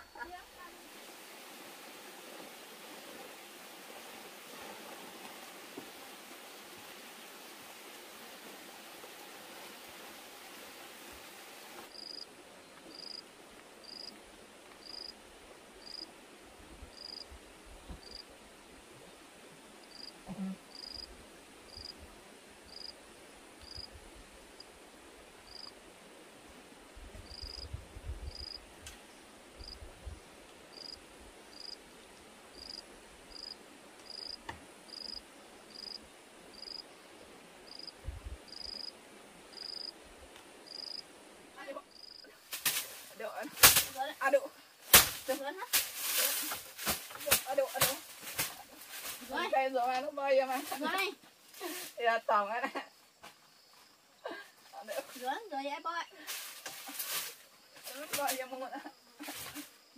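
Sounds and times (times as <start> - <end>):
insect chirping: 0.0 - 14.2, 14.8 - 15.2, 15.8 - 16.1, 16.8 - 26.6, 27.2 - 59.9
faint background hiss: 0.0 - 59.9.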